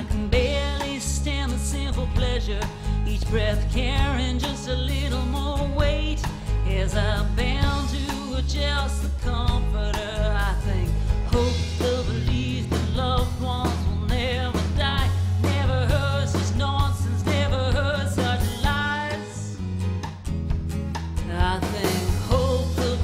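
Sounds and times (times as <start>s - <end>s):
woman singing with vibrato: 0.0s - 19.6s, 21.3s - 23.0s
bass line: 0.0s - 23.0s
live band playing: 0.0s - 23.0s.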